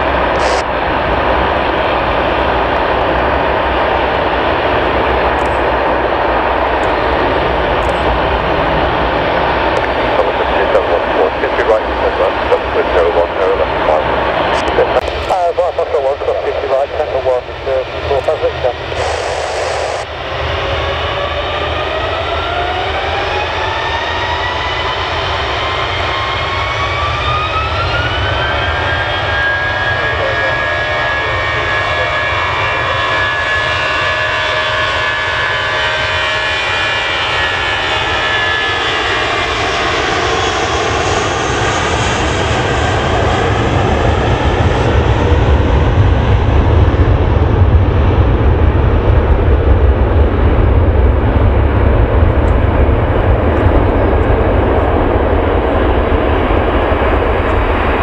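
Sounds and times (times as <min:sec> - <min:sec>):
deep engine rumble: 0:00.0 - 0:35.8, 0:36.5 - 0:58.0
jet engine whine: 0:00.0 - 0:58.0.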